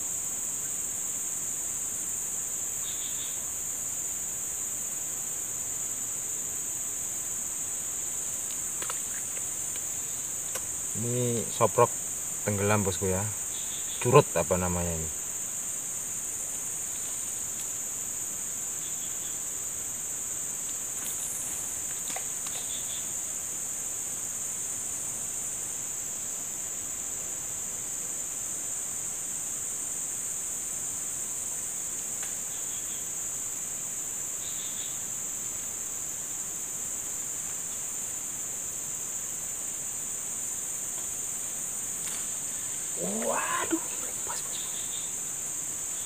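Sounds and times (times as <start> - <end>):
insect chorus drone: 0.0 - 46.0.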